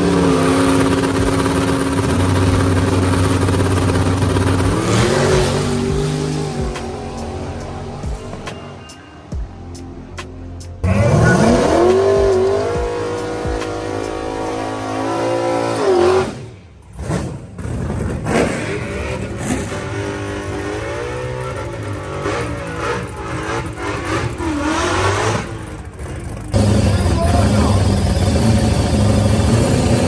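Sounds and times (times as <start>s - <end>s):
drag racing engine revving: 0.0s - 8.8s, 10.7s - 30.0s.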